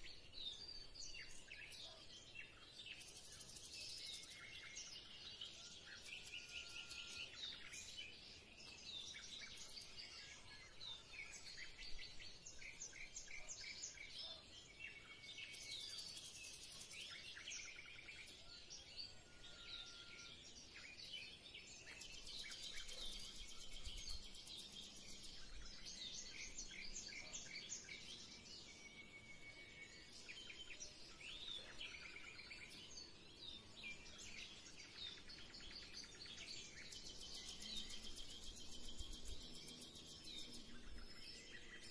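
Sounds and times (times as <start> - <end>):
small birds chirping and trilling: 0.0 - 41.9.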